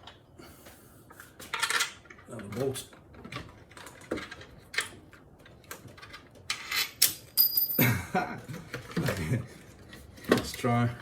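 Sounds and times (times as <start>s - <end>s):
tools and metal parts clattering: 1.5s - 10.8s.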